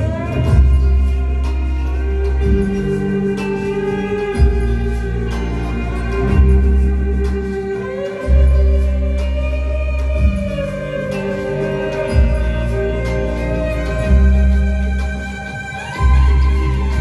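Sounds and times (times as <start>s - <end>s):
electric bass notes: 0.0s - 17.0s
violin sustained notes: 0.0s - 17.0s.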